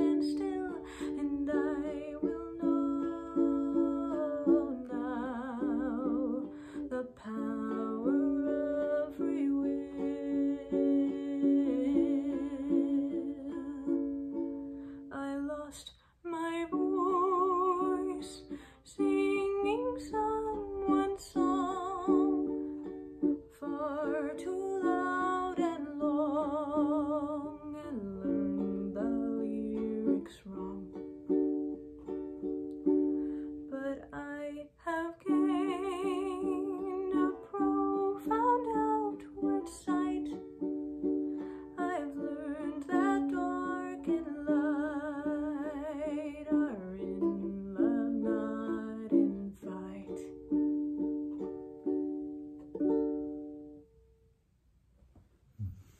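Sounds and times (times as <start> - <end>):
woman singing with vibrato: 0.0 - 14.3, 15.0 - 31.0, 33.7 - 40.4, 41.6 - 50.3
ukulele strumming: 0.0 - 54.2.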